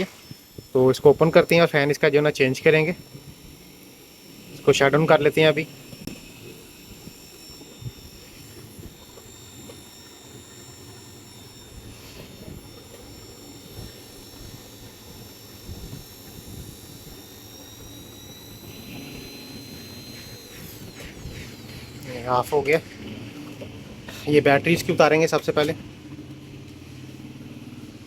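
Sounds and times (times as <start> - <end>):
laptop fan whining: 0.0 - 28.0.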